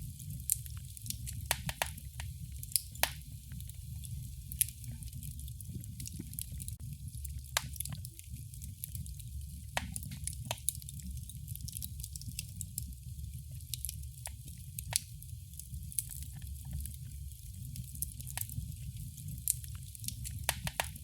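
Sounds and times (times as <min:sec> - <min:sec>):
sharp pops and snaps of fire: 0:00.0 - 0:21.0
wood fire crackling: 0:00.0 - 0:21.0.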